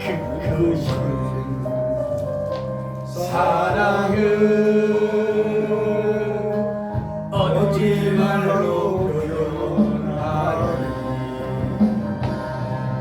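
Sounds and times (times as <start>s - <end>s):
slow worship song singing: 0.0s - 13.0s
steady musical accompaniment: 0.0s - 13.0s.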